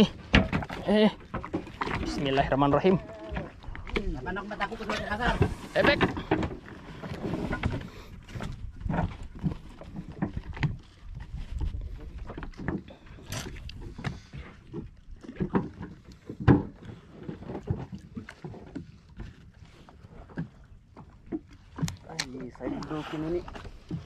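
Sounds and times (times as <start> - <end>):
knocks and clunks on boat: 0.0 - 24.0.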